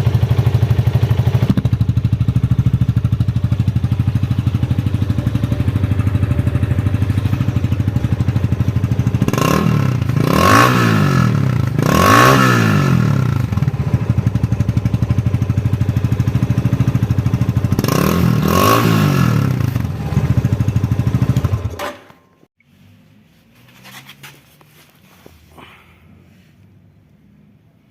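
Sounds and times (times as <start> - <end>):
motorcycle engine idling and revving: 0.0 - 22.5.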